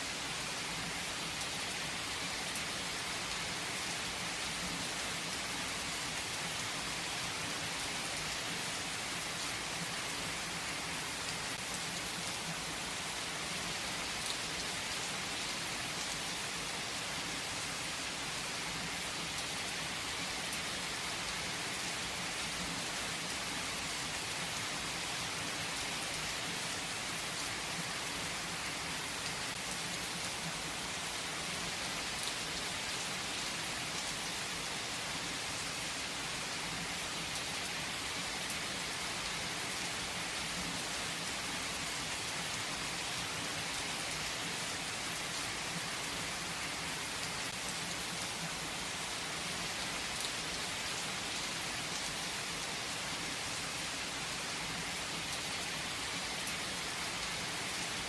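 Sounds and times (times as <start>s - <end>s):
heavy rain on leaves: 0.0s - 58.0s.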